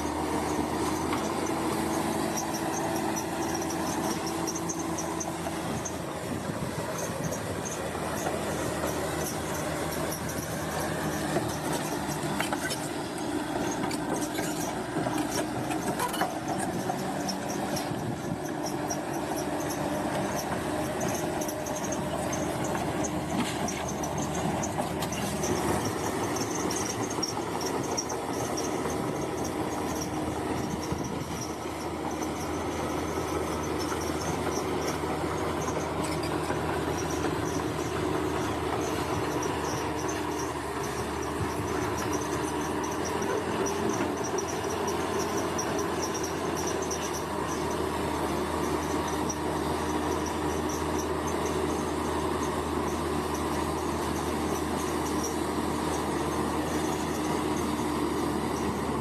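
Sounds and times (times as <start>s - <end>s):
bulldozer diesel engine running: 0.0s - 59.0s
steel tracks clanking and squealing: 0.0s - 59.0s.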